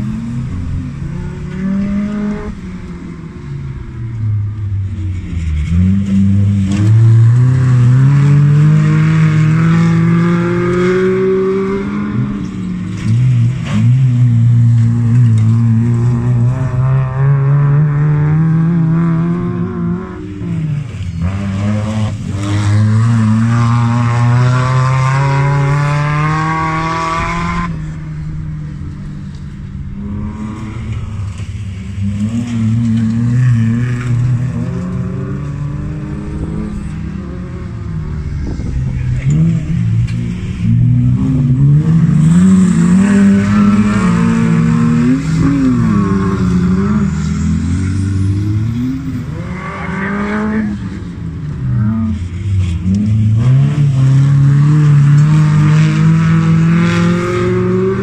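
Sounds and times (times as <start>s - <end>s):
car engines accelerating hard: 0.0s - 58.0s.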